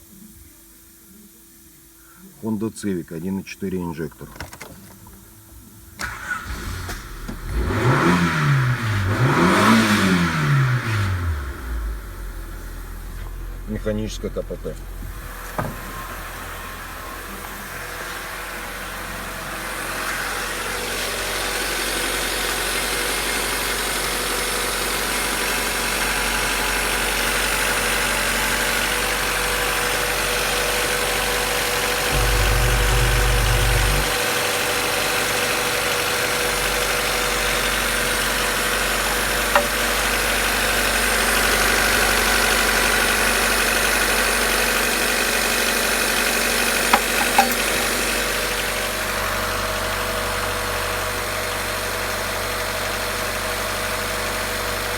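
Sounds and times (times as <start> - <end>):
car engine idling: 5.5 - 54.9.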